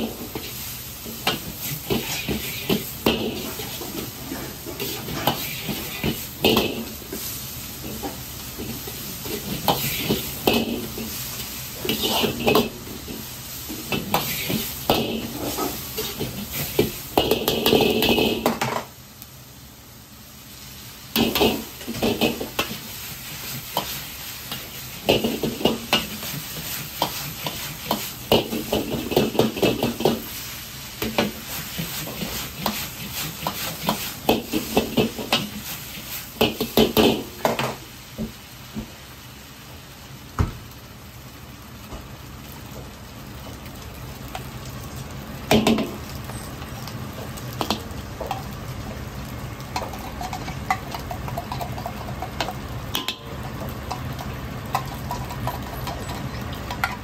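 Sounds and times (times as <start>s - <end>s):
food sizzling: 0.0s - 57.0s.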